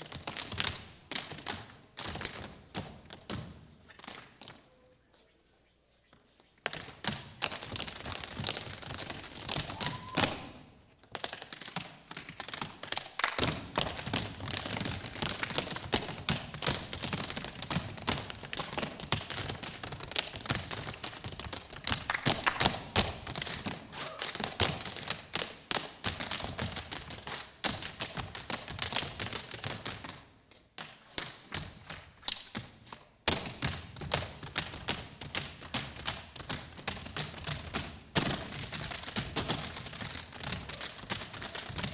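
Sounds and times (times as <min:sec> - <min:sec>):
tap shoes on stage floor: 0:00.0 - 0:04.7, 0:06.6 - 0:41.9.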